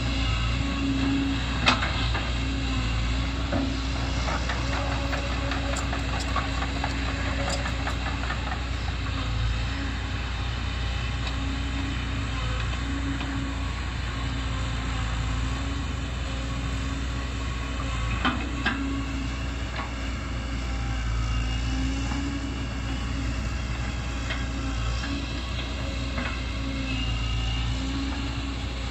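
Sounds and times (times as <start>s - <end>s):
excavator diesel engine drone: 0.0s - 28.9s.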